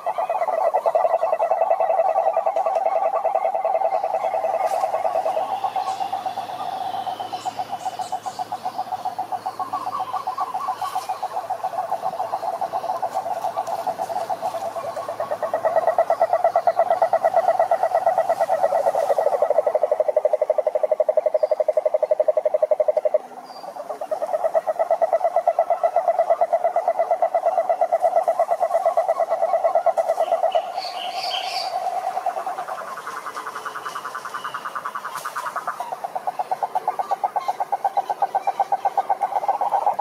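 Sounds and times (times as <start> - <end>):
frog pulsing trills: 0.0 - 40.0.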